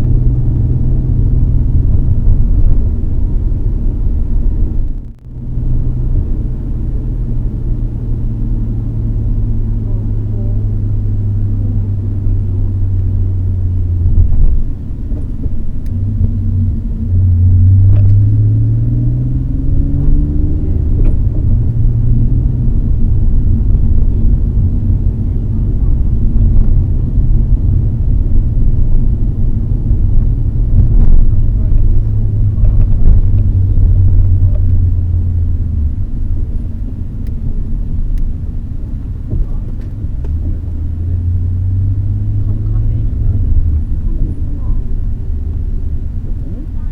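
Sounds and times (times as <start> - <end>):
car engine droning: 0.0 - 46.9
road rumble: 0.0 - 46.9.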